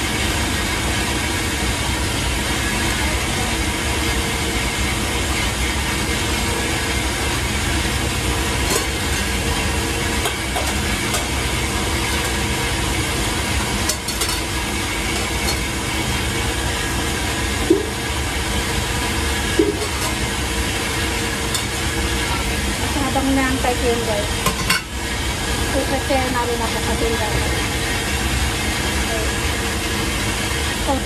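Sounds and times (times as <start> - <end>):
exhaust fans running: 0.0 - 31.0
gas burners roaring: 0.0 - 31.0.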